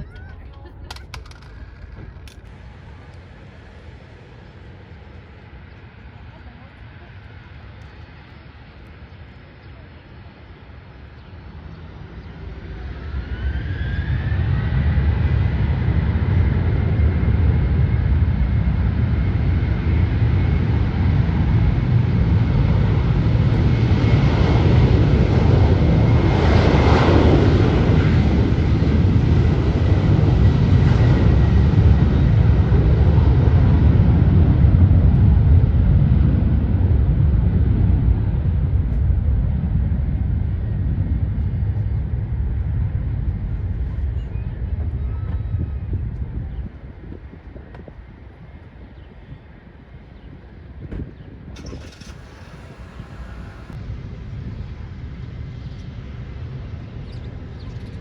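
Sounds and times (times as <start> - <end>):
jet engine high whine: 0.0 - 58.0
jet engine rumble: 0.0 - 58.0.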